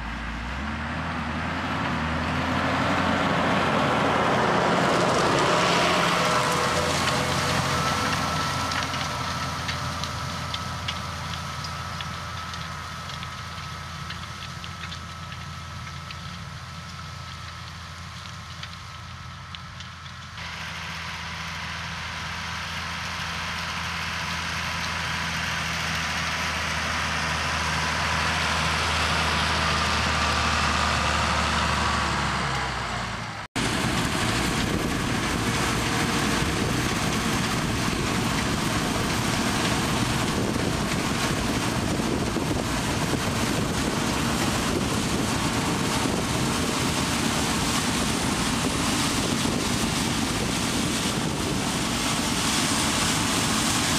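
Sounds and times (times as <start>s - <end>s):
tractor engine droning: 0.0s - 53.9s
combine harvester threshing: 1.6s - 53.9s.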